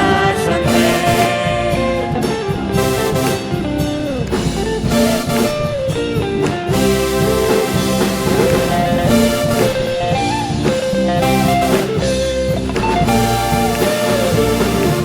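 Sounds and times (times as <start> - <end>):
drum kit: 0.0 - 15.0
guitar: 0.0 - 15.0
live band playing: 0.0 - 15.0.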